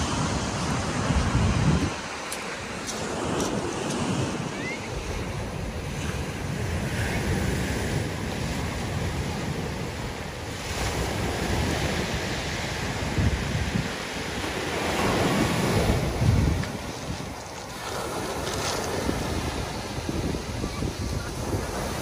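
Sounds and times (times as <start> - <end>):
waves breaking on pebble beach: 0.0 - 22.0
wind buffeting microphone: 0.0 - 22.0.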